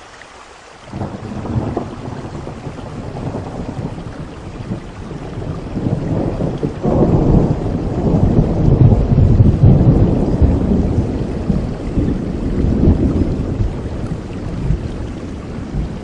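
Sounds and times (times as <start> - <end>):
steady rain: 0.0 - 16.0
rolling thunder: 0.9 - 16.0.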